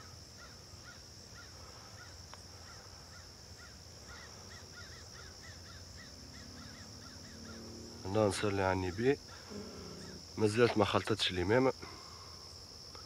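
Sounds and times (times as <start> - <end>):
faint bird chirps: 0.0 - 10.5
steady high hiss: 0.0 - 13.0.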